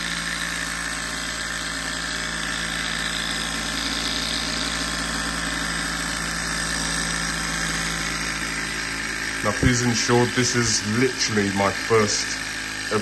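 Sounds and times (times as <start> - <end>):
stirling engine mechanical whir: 0.0 - 13.0.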